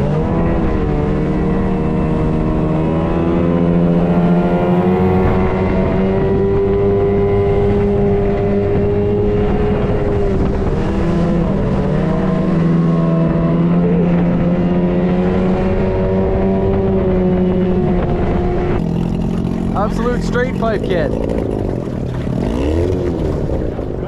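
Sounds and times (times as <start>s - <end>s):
outboard motor at full throttle: 0.0s - 24.0s
water rushing along hull: 0.0s - 24.0s.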